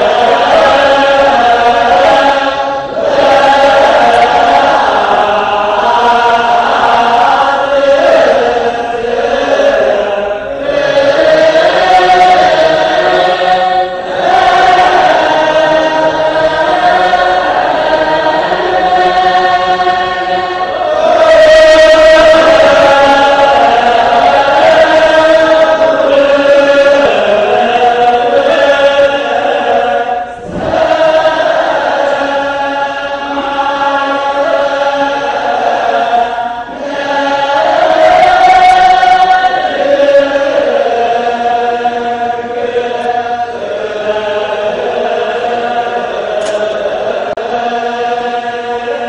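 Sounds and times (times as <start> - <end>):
men's choir chanting in unison: 0.0 - 49.0.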